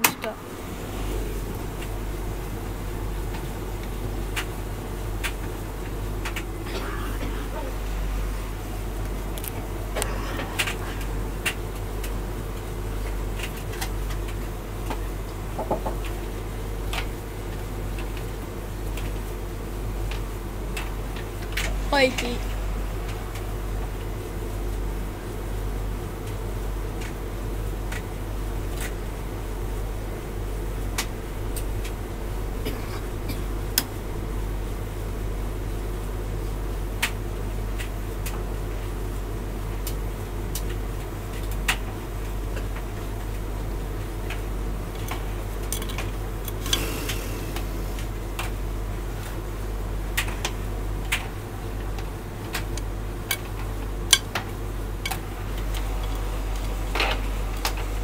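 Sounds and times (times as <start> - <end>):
tumble dryer motor and fan hum: 0.0 - 58.0.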